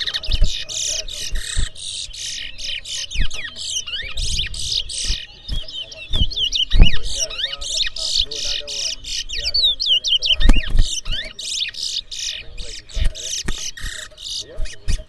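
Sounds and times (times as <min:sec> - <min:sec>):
low thumps: 0:00.0 - 0:09.6, 0:10.3 - 0:11.4, 0:12.0 - 0:15.0
finches singing: 0:00.0 - 0:15.0.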